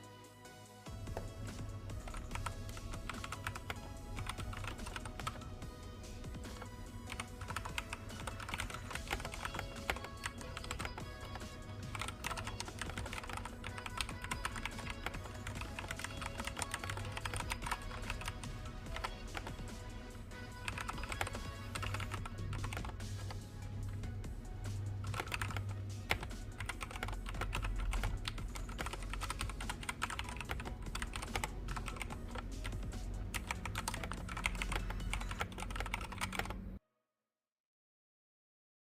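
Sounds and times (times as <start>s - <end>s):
music with steady bass line: 0.8s - 36.0s
rapid mechanical keyboard typing: 1.1s - 5.5s, 6.3s - 19.7s, 20.5s - 23.4s, 25.0s - 36.7s.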